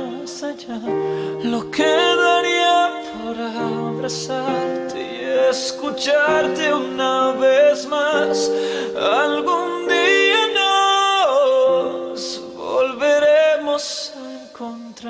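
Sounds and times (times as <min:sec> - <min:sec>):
person singing pop ballad: 0:00.0 - 0:15.0.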